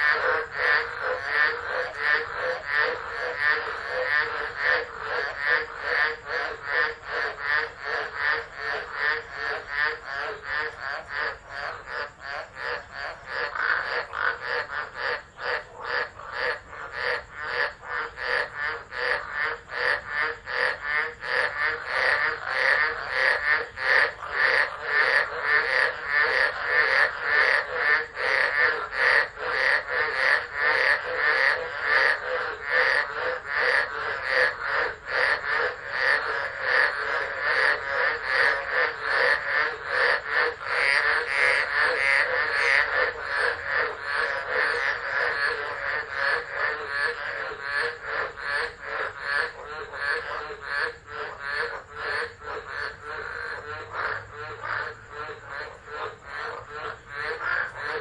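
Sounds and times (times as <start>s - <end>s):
chorus of frogs calling: 0.0s - 58.0s.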